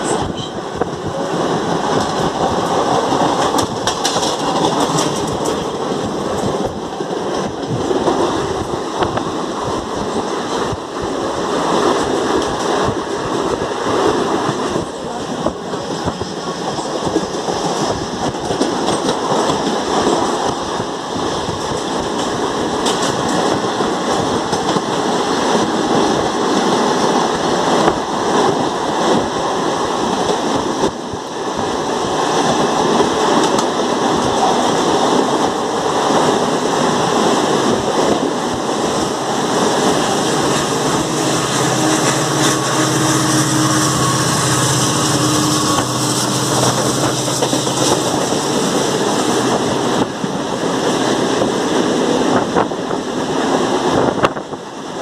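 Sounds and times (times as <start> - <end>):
trains rushing and rumbling: 0.0 - 55.0.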